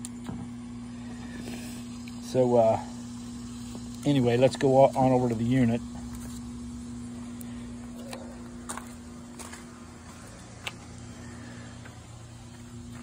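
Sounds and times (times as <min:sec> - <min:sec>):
electric motor hum: 0:00.0 - 0:13.0.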